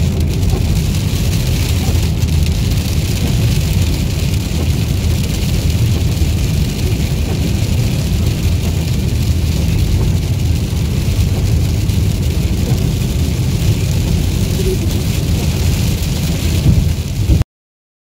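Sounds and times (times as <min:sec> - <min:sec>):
heavy rain on car roof: 0:00.0 - 0:17.4
road rumble: 0:00.0 - 0:17.4.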